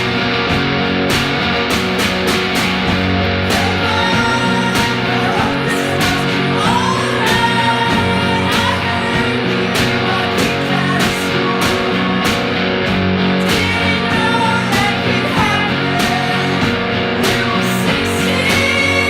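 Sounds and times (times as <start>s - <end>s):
electric guitar: 0.0s - 19.0s
steady drum beat: 0.0s - 19.0s
person singing: 3.4s - 19.0s.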